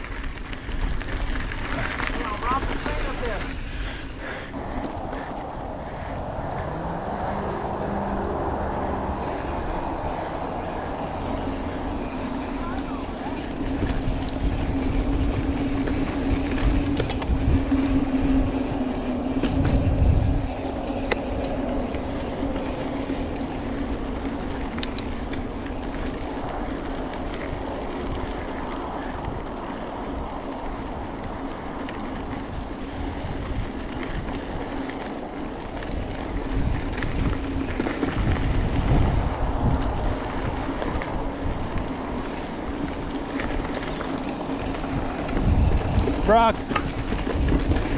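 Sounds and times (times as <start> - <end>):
bike tyres rolling and rattling: 0.0 - 47.9
wind buffeting microphone: 0.0 - 47.9.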